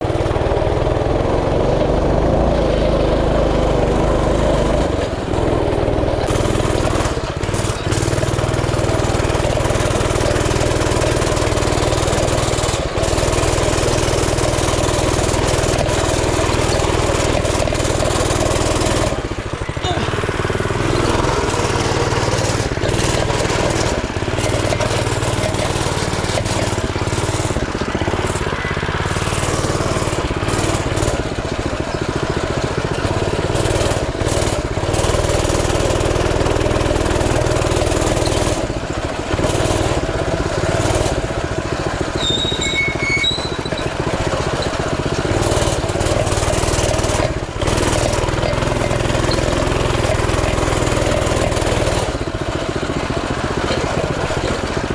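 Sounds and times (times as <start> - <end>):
mini bike engine running: 0.0 - 54.9.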